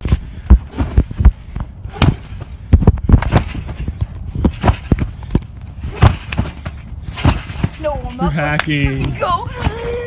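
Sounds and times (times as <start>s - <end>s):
trampoline mat thudding: 0.0s - 8.2s.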